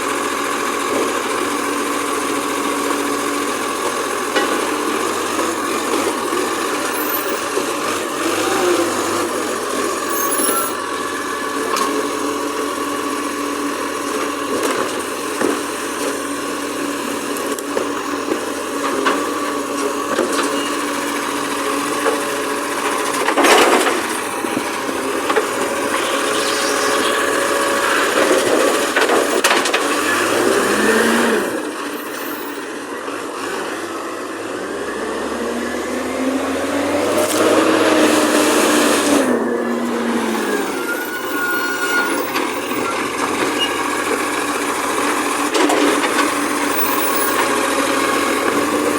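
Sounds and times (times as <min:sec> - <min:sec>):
garbage truck engine drone: 0:00.0 - 0:48.9.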